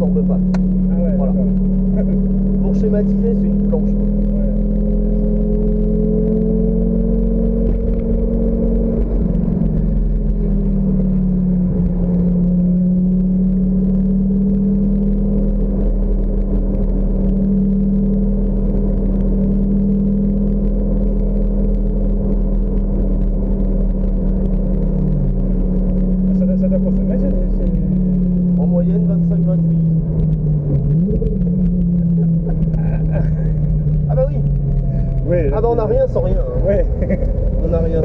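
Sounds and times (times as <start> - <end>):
car engine pulling steadily: 0.0 - 38.0
low wind rumble: 0.0 - 38.0.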